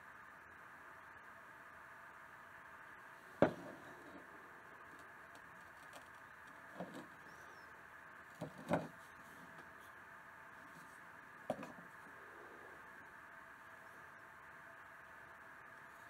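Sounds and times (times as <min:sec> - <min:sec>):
faint background hum: 0:00.0 - 0:16.0.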